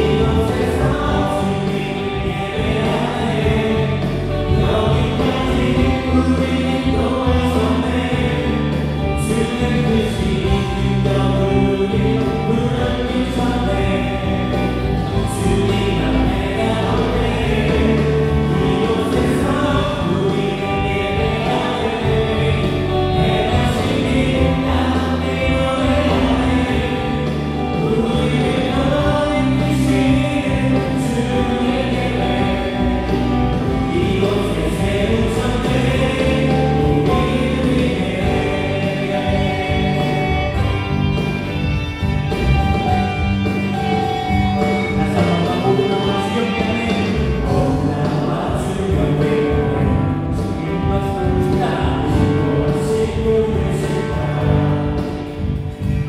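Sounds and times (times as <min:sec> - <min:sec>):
group of voices singing: 0:00.0 - 0:56.0
live band playing praise song: 0:00.0 - 0:56.0.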